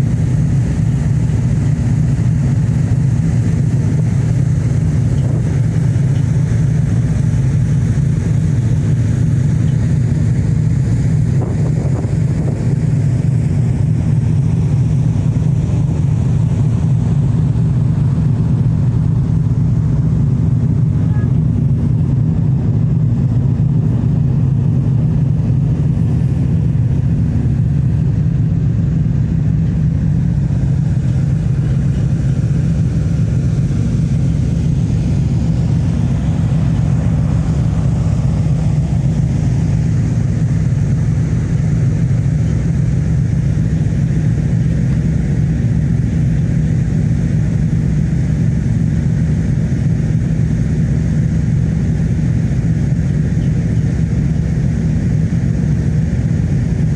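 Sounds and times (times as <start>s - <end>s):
vehicle engine drone: 0.0s - 56.9s.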